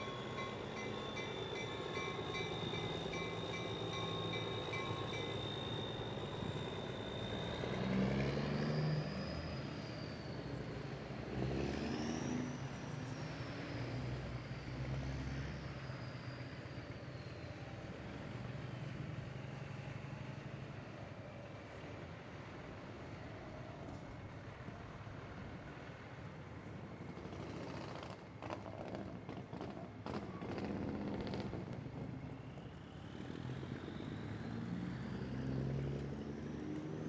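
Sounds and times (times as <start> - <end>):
diesel truck engines pulling away: 0.0 - 37.0.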